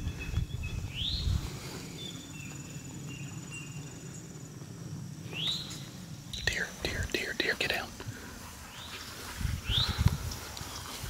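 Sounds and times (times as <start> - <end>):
insects trilling: 0.1 - 11.0.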